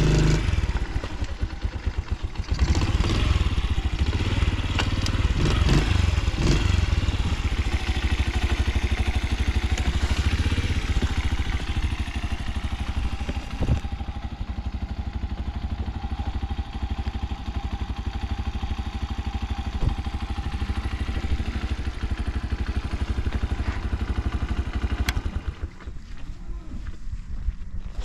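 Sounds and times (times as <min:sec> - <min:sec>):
small engine running: 0:00.0 - 0:25.8.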